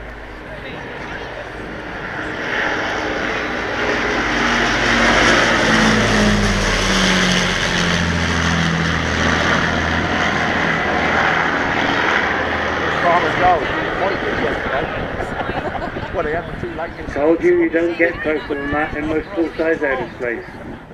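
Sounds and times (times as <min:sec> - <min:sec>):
propeller aircraft engines droning overhead: 0:00.0 - 0:20.9.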